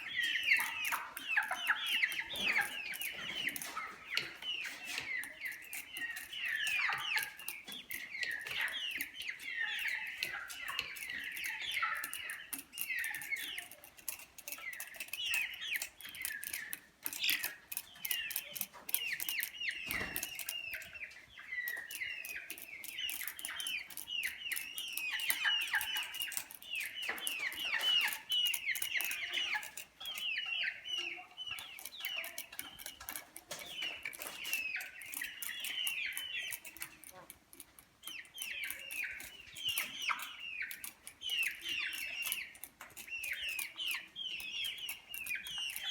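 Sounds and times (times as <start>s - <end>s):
chickens peeping: 0.0s - 45.9s
sharp clicks: 0.0s - 45.9s.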